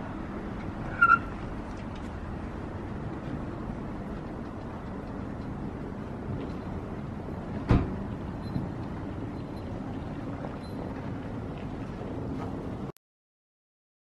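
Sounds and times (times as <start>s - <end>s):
distant vehicle rumble: 0.0s - 12.9s.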